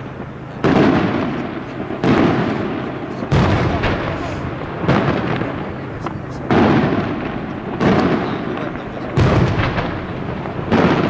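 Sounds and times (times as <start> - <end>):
firework shells booming: 0.0 - 11.0.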